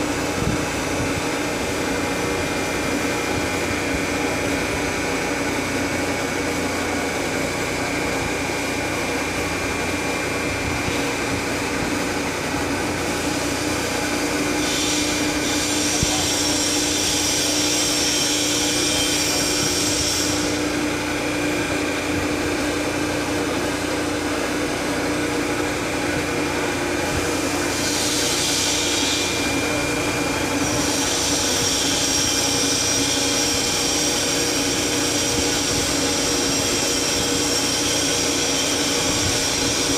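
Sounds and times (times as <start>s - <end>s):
hydraulic pump motor running: 0.0s - 39.9s.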